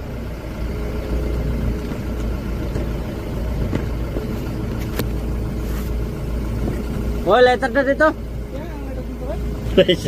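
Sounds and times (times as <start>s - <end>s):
vehicle engine low rumble: 0.0s - 10.0s.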